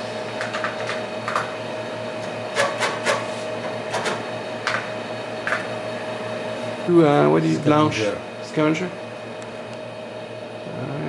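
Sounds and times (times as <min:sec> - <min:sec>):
disk drive hum: 0:00.0 - 0:02.6, 0:03.4 - 0:11.0.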